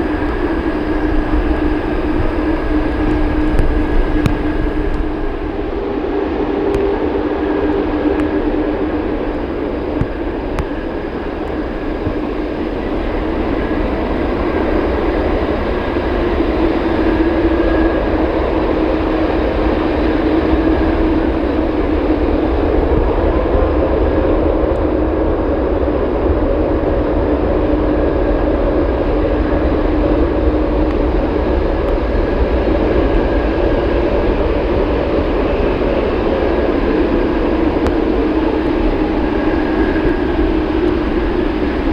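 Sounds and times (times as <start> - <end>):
jet engines droning and whining: 0.0 - 41.9.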